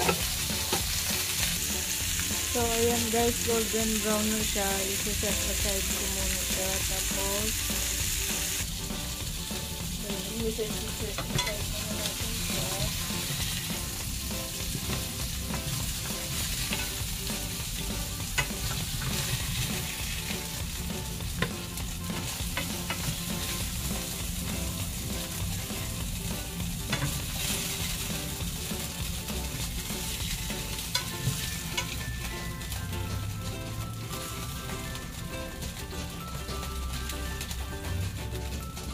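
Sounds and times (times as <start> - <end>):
meat sizzling in hot oil: 0.0 - 38.9.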